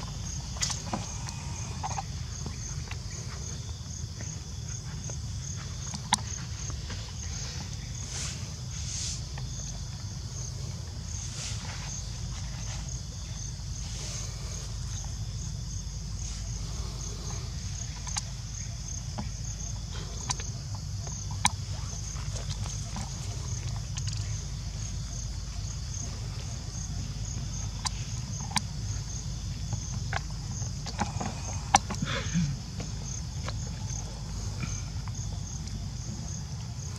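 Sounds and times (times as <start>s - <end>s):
steady low rumble: 0.0s - 31.9s.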